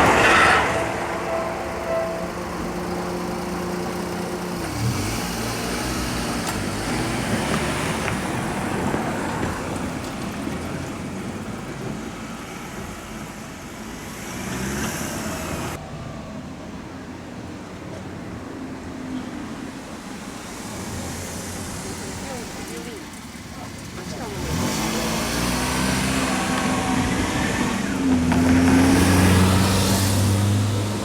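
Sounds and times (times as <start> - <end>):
heavy vehicle engine: 0.0 - 15.8, 20.5 - 31.0.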